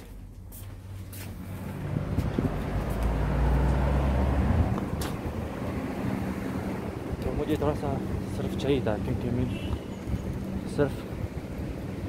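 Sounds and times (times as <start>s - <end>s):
motor vehicle passing by: 1.1s - 12.0s.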